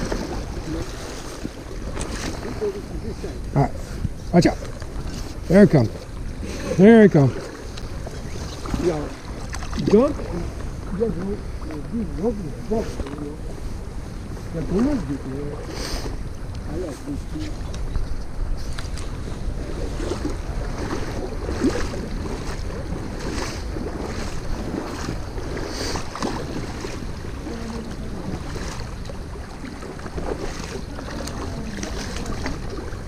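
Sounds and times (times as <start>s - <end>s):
creek water rushing: 0.0s - 33.0s
faint splashes: 0.0s - 33.0s
wind buffeting microphone: 0.0s - 33.0s.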